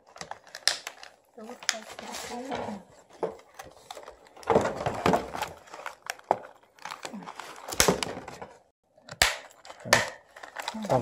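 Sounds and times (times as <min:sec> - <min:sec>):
toy packaging rustling: 0:00.0 - 0:11.0.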